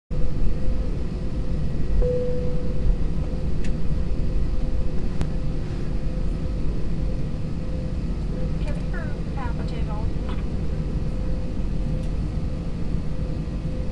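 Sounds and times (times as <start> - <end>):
jet engines rumbling: 0.1 - 13.9.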